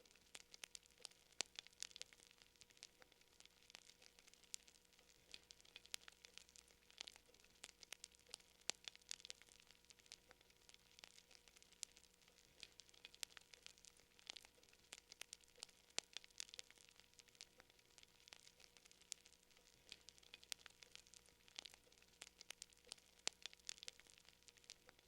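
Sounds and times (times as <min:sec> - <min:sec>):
faint steady hum: 0:00.0 - 0:25.0
fire crackling: 0:00.0 - 0:25.0.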